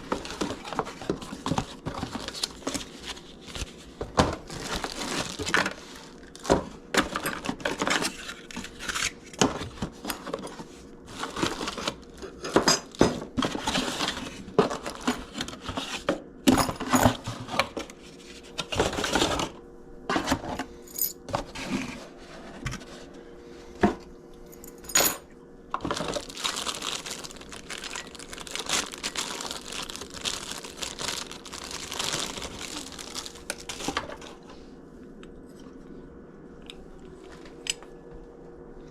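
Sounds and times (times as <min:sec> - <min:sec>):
rustling and crinkling: 0:00.0 - 0:23.2, 0:24.6 - 0:34.6.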